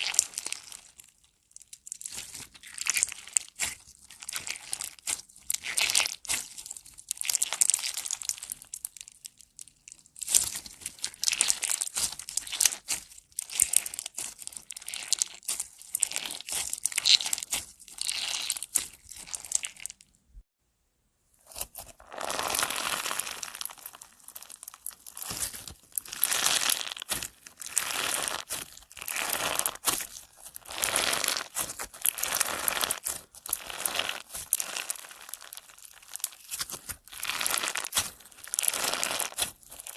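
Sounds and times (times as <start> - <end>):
slime squished by hand crackling: 1.9 - 20.0, 21.5 - 39.9.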